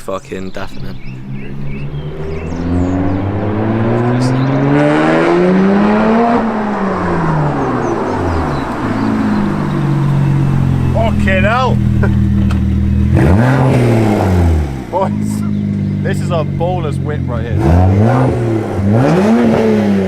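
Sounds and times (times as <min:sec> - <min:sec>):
car exhaust accelerating: 0:00.0 - 0:20.0.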